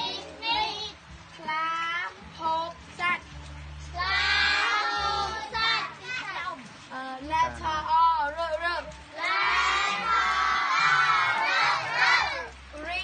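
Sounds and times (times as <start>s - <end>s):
children shouting and cheering: 0.0s - 2.2s, 3.9s - 6.7s, 7.4s - 13.0s.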